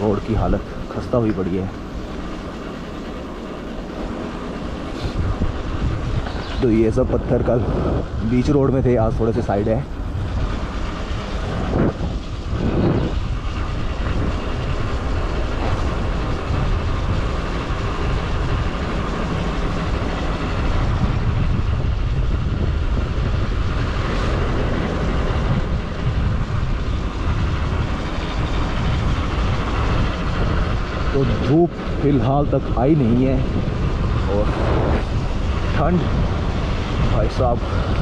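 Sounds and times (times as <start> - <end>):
motorcycle engine running: 0.0 - 38.0
wind rumble on microphone: 4.1 - 38.0.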